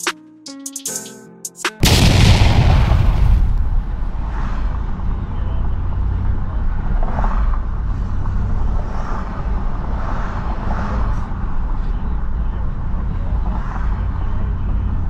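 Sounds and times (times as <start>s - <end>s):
car interior road rumble: 2.5s - 15.0s.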